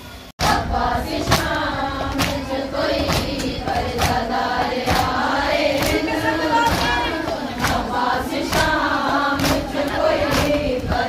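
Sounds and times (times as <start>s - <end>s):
women chanting in unison: 0.4s - 11.0s.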